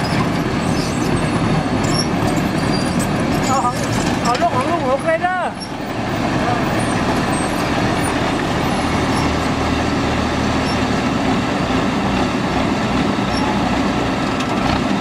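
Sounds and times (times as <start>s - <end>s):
combine harvester machinery drone: 0.0s - 15.0s.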